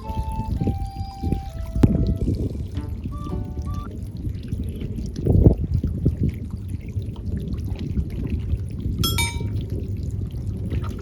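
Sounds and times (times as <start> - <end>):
sea: 0.0 - 11.0
wind buffeting microphone: 0.0 - 11.0.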